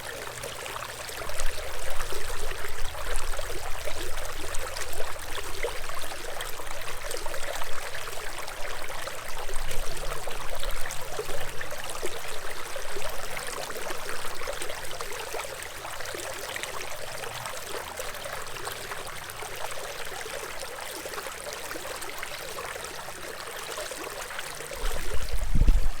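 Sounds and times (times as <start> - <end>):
stream water trickling: 0.0 - 26.0.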